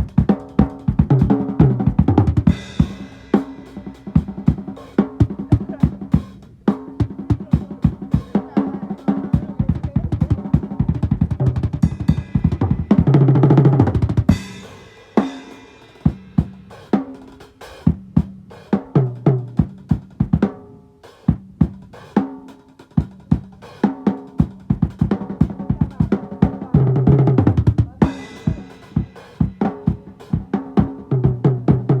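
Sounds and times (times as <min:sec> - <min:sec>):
drum kit playing a beat: 0:00.0 - 0:32.0.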